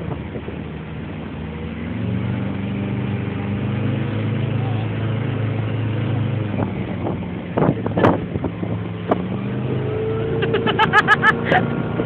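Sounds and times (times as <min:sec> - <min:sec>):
rushing wind and water: 0:00.0 - 0:12.0
speedboat engine running: 0:00.0 - 0:12.0.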